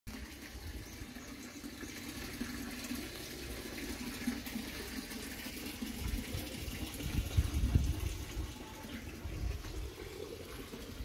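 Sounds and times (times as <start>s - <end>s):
running water splashing: 0.1s - 11.0s.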